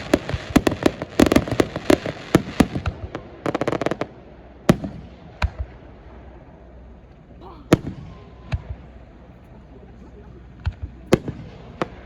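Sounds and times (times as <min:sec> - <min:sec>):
fireworks bangs and crackle: 0:00.0 - 0:09.2, 0:10.5 - 0:12.0.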